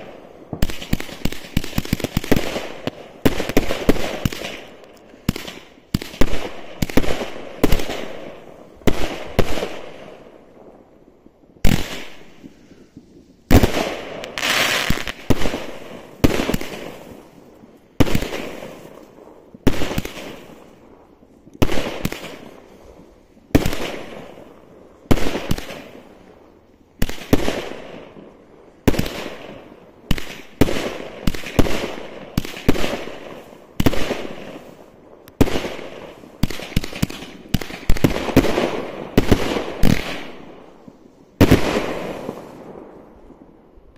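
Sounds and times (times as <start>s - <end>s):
fireworks bangs: 0.0s - 10.7s, 11.6s - 26.3s, 27.0s - 43.5s.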